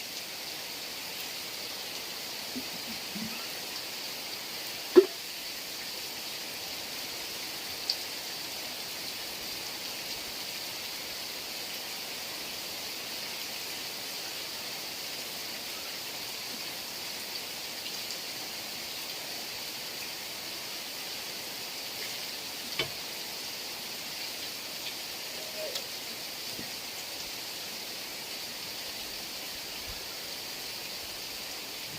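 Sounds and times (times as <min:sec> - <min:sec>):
heavy rain hiss: 0:00.0 - 0:31.9.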